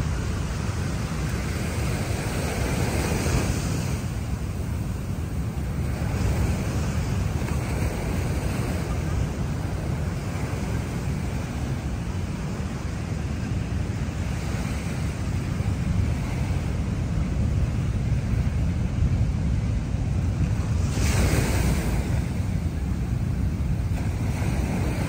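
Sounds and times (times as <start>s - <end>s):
surf washing up a beach: 0.0s - 25.0s
wind buffeting the microphone: 0.0s - 25.0s.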